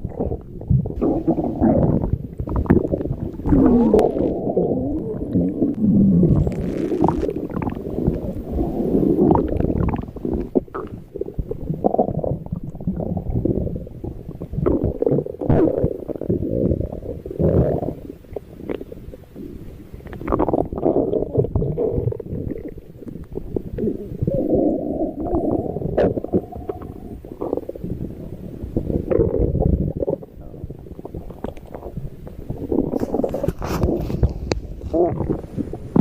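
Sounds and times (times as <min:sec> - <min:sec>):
stomach growling: 0:00.0 - 0:36.0.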